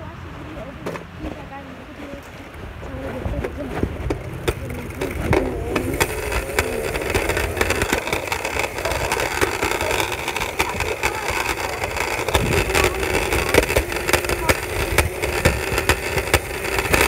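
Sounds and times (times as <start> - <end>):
scooter wheels rolling on pavement: 0.0 - 17.0.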